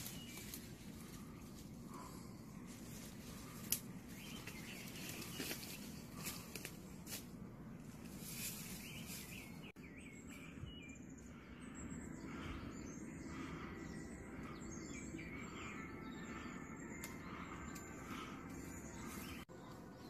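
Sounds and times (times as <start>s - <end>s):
low steady background rumble: 0.0s - 20.0s
small birds chirping: 0.0s - 20.0s.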